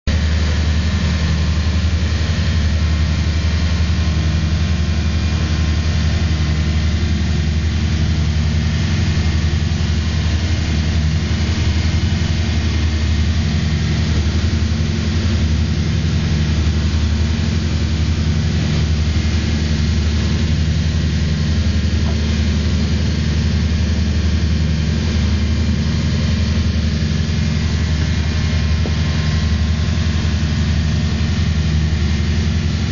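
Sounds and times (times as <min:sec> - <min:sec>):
motorboat engine droning: 0:00.1 - 0:32.9.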